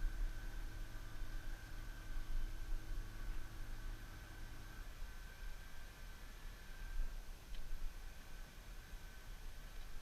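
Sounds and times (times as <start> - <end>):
faint low rumble and hiss: 0.0 - 10.0
thin steady high tone: 0.0 - 10.0.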